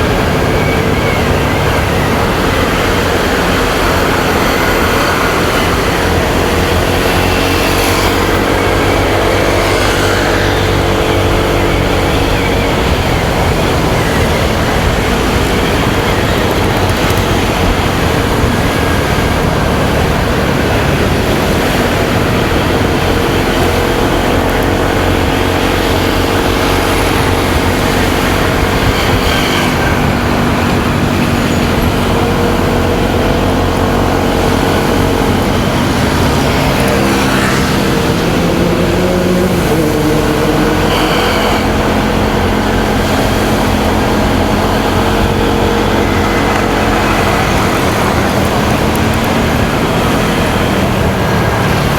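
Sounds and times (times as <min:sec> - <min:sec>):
motorcycle engine running: 0:00.0 - 0:51.9
road traffic: 0:00.0 - 0:51.9
wind rumble on microphone: 0:00.0 - 0:51.9.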